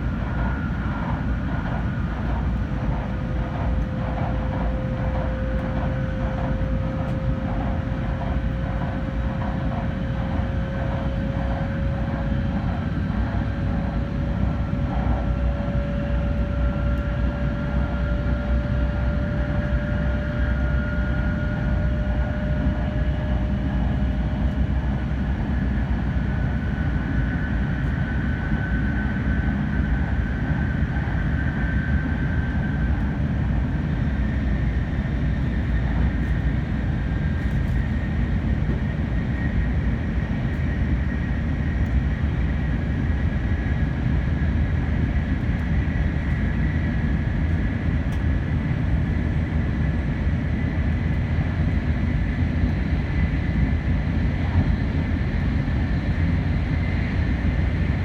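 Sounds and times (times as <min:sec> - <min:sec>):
rumble of train wheels on track: 0:00.0 - 0:58.0.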